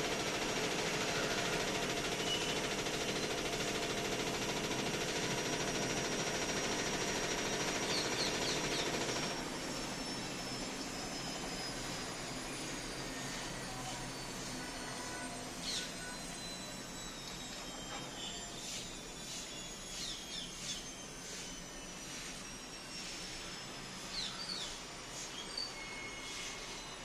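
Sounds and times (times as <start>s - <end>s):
washing machine motor whir: 0.0s - 27.0s.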